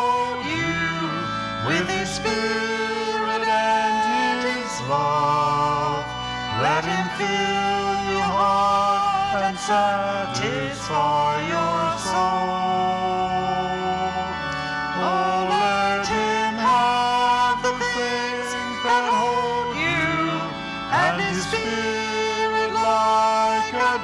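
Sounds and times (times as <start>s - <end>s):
woman and man singing a hymn: 0.0s - 24.0s.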